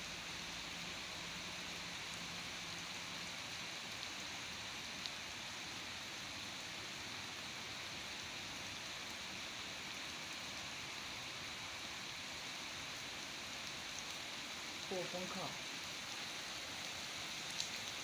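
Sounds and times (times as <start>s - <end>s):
heavy rain on standing water: 0.0s - 18.0s.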